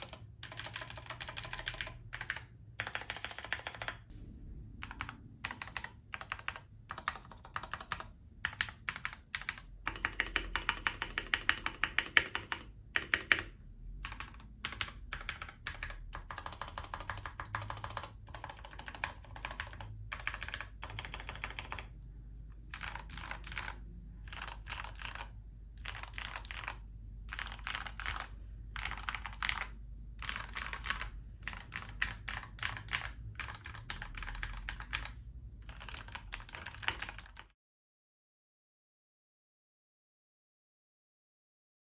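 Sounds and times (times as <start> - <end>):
mechanical keyboard typing: 0.0 - 4.1, 4.8 - 37.5.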